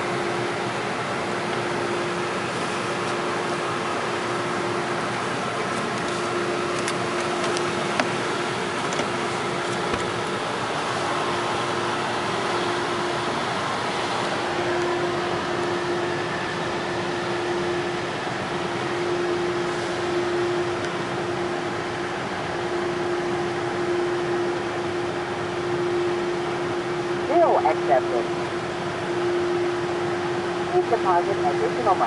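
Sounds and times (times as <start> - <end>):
constant hum: 0.0 - 32.0.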